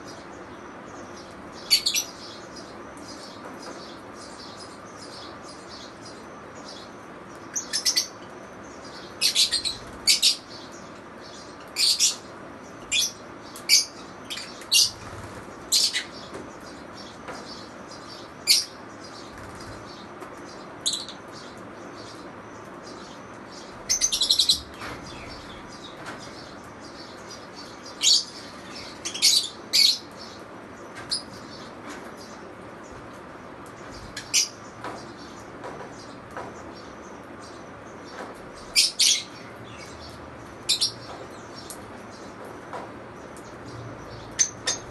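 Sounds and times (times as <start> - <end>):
lovebirds chirping: 0.0 - 44.9.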